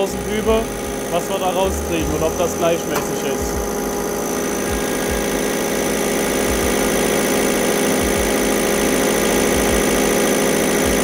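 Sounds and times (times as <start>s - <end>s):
test bench mechanical hum and rattle: 0.0s - 11.0s.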